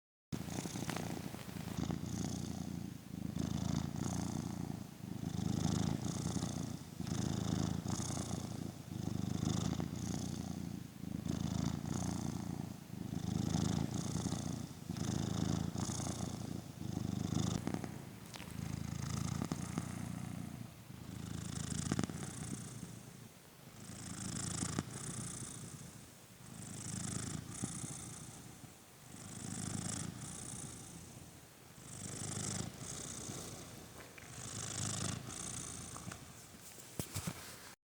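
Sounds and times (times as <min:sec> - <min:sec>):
cat purring: 0:00.4 - 0:37.4.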